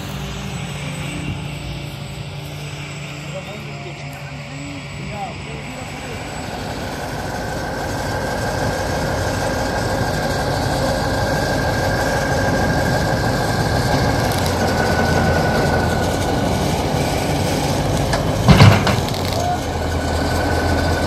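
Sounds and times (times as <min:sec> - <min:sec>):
high engine whine: 0:00.0 - 0:21.0
tractor diesel engine rumble: 0:00.0 - 0:21.0.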